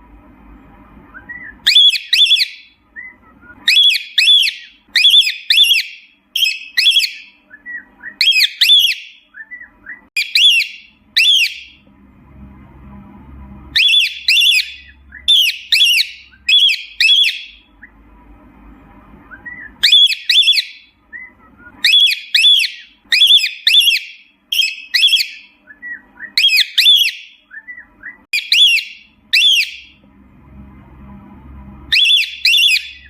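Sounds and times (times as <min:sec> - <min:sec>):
cockatiel whistling calls: 0:01.1 - 0:11.8, 0:13.7 - 0:17.9, 0:19.3 - 0:30.0, 0:31.9 - 0:33.0.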